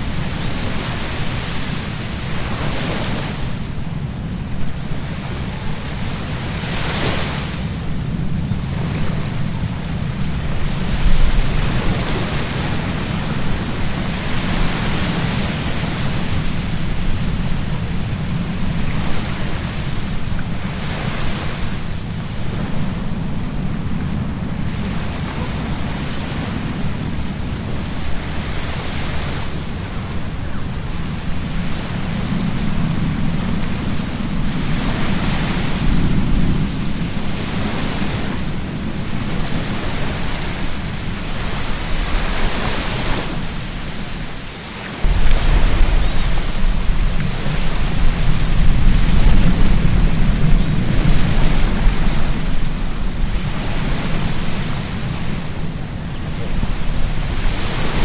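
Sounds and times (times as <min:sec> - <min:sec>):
ocean surf breaking: 0:00.0 - 0:58.0
wind buffeting microphone: 0:00.0 - 0:58.0.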